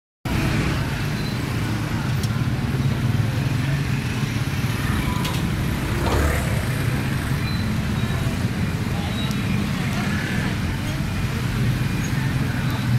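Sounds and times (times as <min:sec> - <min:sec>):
street traffic rumble: 0:00.3 - 0:12.9.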